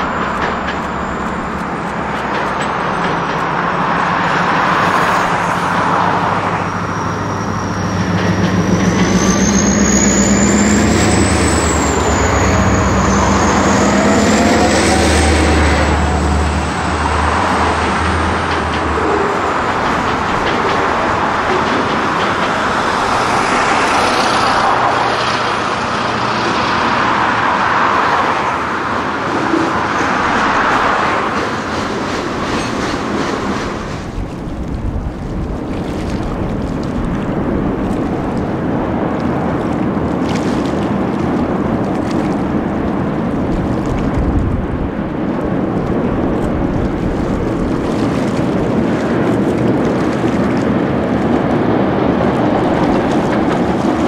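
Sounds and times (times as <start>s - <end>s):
train wheels clattering on rails: 0.0s - 26.6s, 28.2s - 36.9s, 39.2s - 54.0s.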